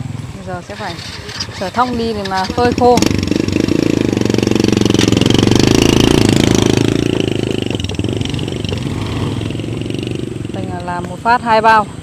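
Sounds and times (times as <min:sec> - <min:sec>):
motorbike engine under load: 0:00.7 - 0:10.6.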